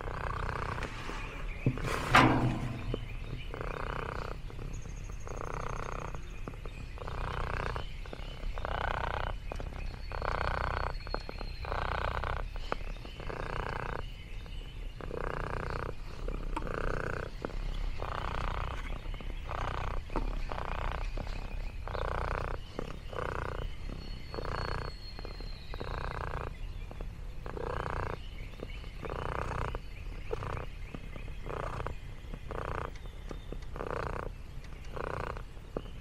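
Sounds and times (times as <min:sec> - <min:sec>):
cat purring: 0:00.0 - 0:36.0.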